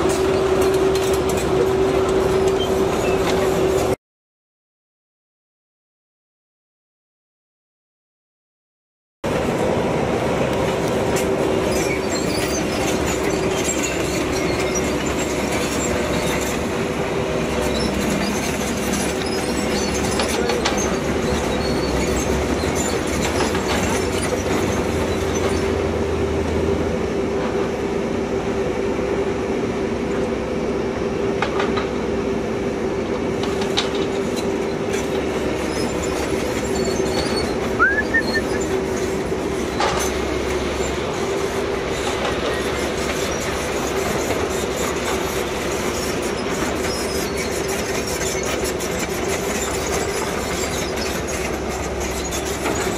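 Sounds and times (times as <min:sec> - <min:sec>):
diesel engine and hydraulic hum: 0:00.0 - 0:04.0, 0:09.3 - 0:52.9.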